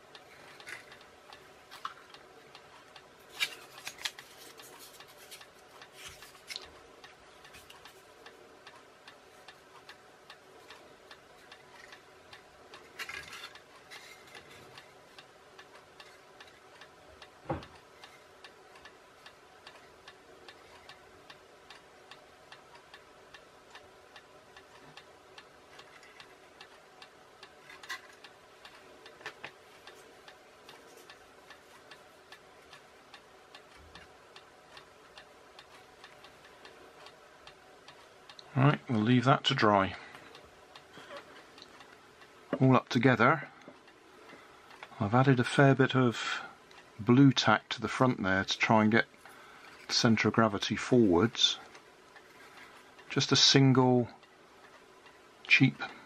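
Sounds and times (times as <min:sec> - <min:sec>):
faint steady ticking: 0:00.0 - 0:56.0.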